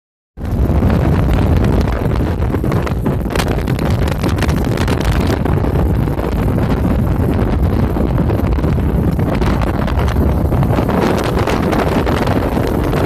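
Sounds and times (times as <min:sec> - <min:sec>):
wind buffeting microphone: 0:00.4 - 0:13.0.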